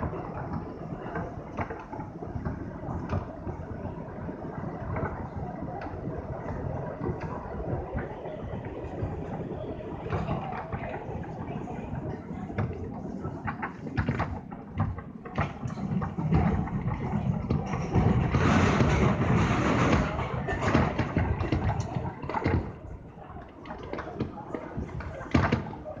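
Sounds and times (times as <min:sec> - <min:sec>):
subway train rumbling in tunnel: 0:00.0 - 0:26.0
wheels clicking over rail joints: 0:00.0 - 0:26.0.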